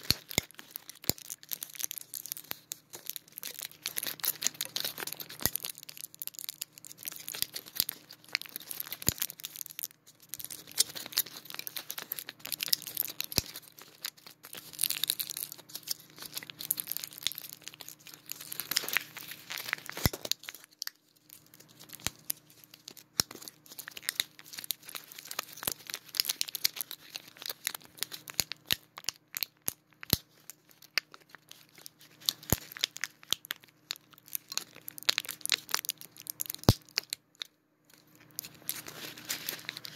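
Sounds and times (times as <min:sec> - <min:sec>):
foil and plastic crinkling: 0:00.0 - 0:39.9.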